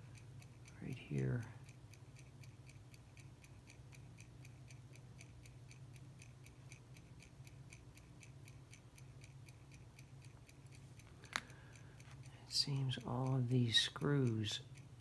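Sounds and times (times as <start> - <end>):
low steady hum: 0.0 - 15.0
mechanical watch ticking: 0.0 - 15.0.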